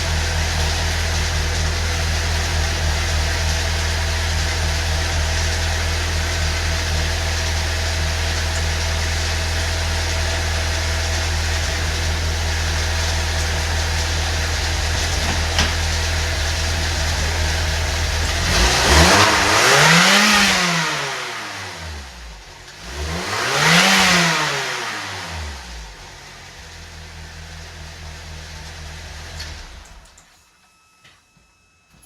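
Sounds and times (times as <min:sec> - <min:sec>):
car engine idling and revving: 0:00.0 - 0:30.3.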